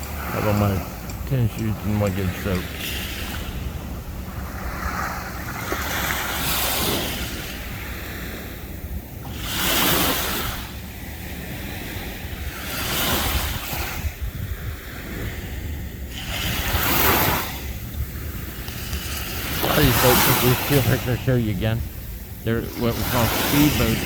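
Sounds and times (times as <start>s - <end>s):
small waves washing up sand: 0.0s - 24.0s
wind rumble on microphone: 0.0s - 24.0s.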